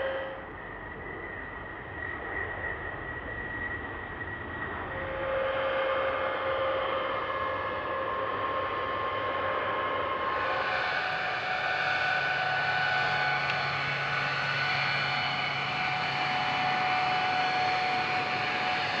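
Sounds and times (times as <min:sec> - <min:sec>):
jet engine whine and rush: 0:00.0 - 0:19.0.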